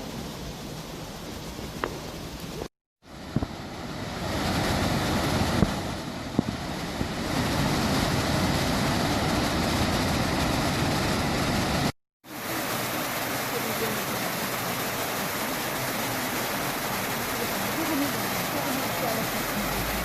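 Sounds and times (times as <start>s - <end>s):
waterfall rushing: 0.1s - 20.0s.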